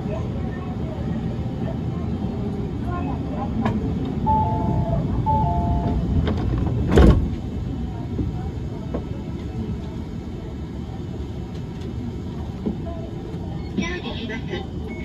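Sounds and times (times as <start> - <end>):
tram steady low rumble: 0.0 - 15.0.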